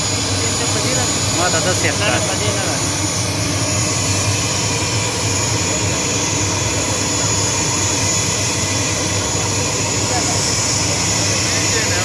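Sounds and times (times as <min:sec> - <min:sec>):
turboprop engine turbine whine: 0:00.0 - 0:12.0.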